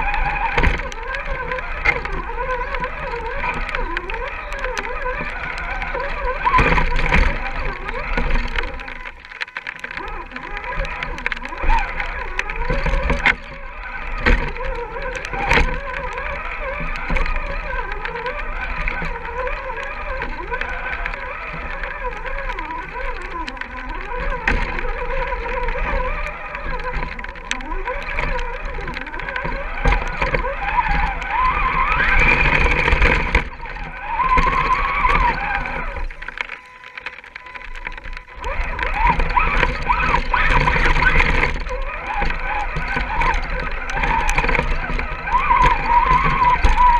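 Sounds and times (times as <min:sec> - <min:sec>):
electric motor and gearbox whining: 0:00.0 - 0:46.9.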